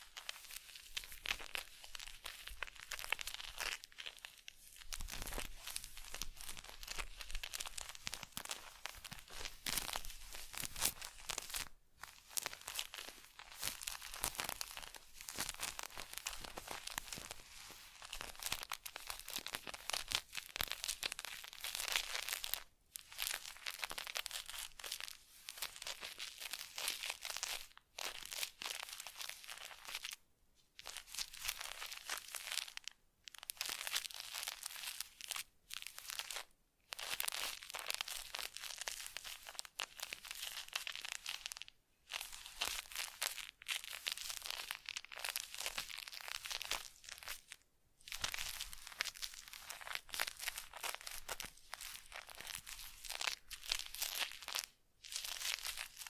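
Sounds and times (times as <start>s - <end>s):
crinkling and scratchy rustling: 0.0s - 56.0s.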